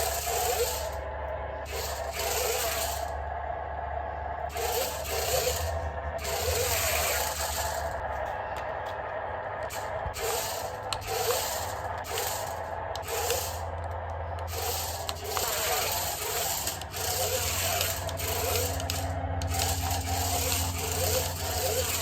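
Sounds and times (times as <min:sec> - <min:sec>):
wheels scraping across surface: 0:00.0 - 0:01.0, 0:01.6 - 0:03.2, 0:04.4 - 0:22.0
toy car motors whirring: 0:00.0 - 0:03.2, 0:04.4 - 0:22.0.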